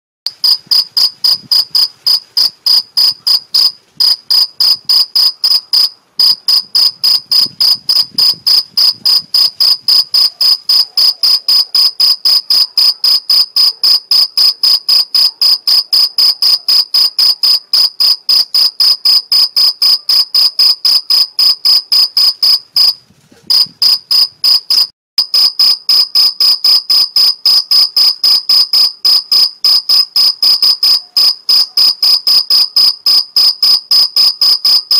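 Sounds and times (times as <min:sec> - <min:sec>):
cricket chirping: 0:00.3 - 0:34.9.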